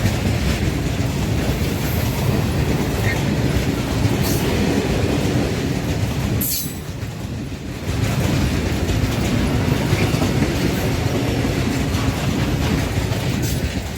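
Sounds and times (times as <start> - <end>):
train rumbling past: 0.0 - 13.9
wheels clattering over track: 0.0 - 13.9.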